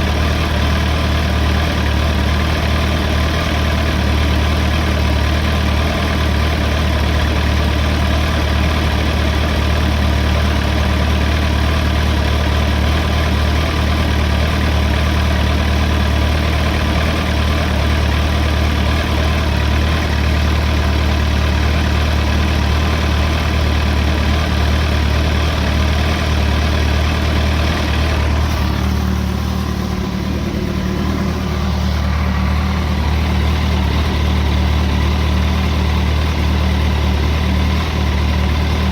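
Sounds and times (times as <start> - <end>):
engine clattering rattle: 0.0 - 38.9
motorcycle engine idling: 0.0 - 38.9.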